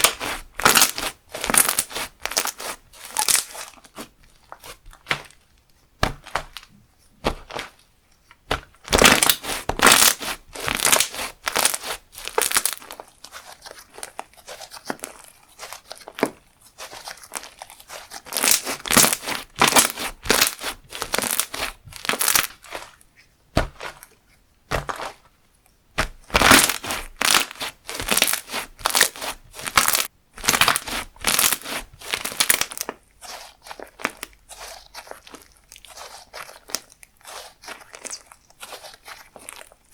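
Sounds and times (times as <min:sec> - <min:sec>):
slime squished by hand: 0:00.0 - 0:07.8, 0:08.4 - 0:23.0, 0:23.6 - 0:25.3, 0:26.0 - 0:39.9.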